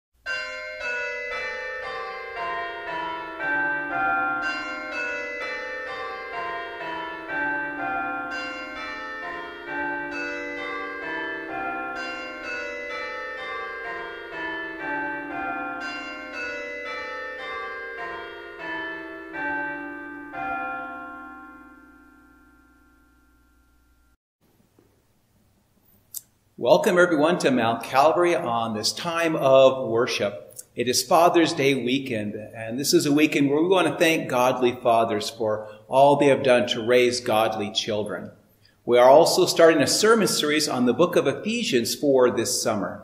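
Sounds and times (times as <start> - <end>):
church bells ringing a peal: 0.3 - 24.1, 26.7 - 43.0.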